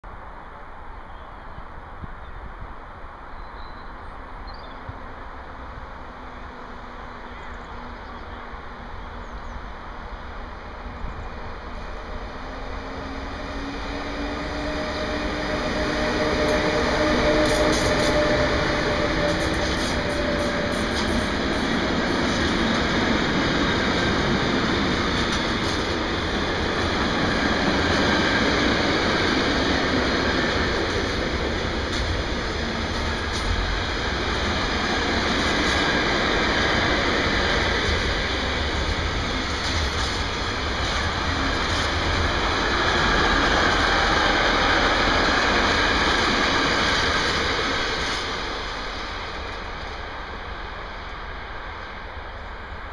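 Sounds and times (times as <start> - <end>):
electric locomotive passing: 0.1 - 52.9.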